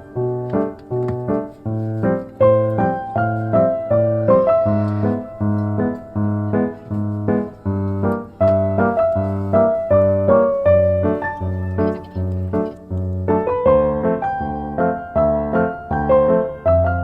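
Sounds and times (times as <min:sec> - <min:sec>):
gentle piano tune: 0:00.0 - 0:17.0.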